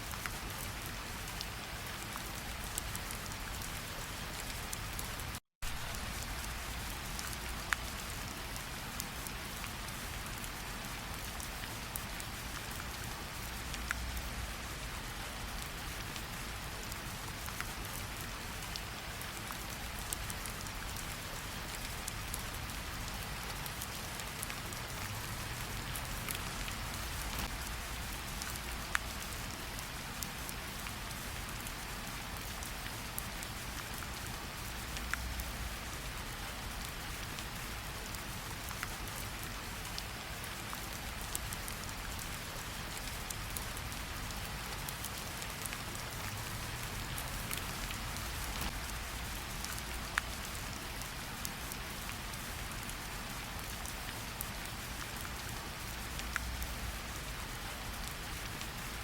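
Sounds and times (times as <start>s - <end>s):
rain on leaves and ground: 0.0s - 59.0s
raindrops ticking close by: 0.1s - 59.0s.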